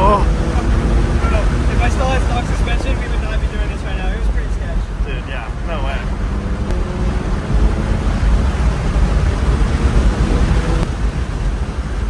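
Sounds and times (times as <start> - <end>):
car engine hum: 0.0 - 12.0
road and wind rumble: 0.0 - 12.0.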